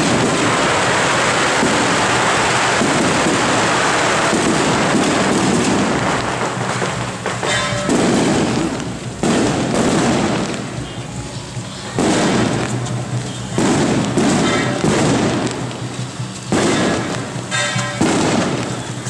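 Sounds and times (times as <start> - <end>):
firecrackers going off: 0.0 - 19.0.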